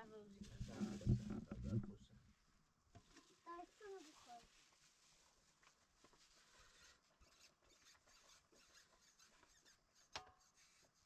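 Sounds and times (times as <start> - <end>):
faint rustling: 0.0 - 2.2, 3.0 - 9.8.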